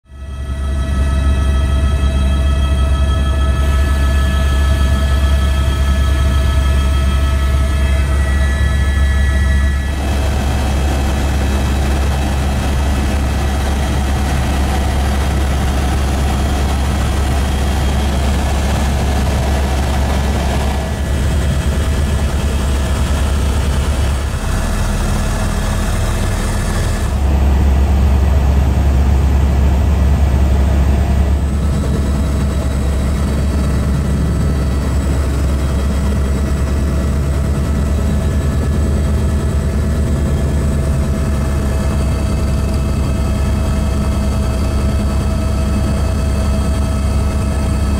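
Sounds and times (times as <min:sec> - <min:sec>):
faint steady whines: 0:00.1 - 0:47.9
helicopter rotor drone: 0:00.1 - 0:47.9.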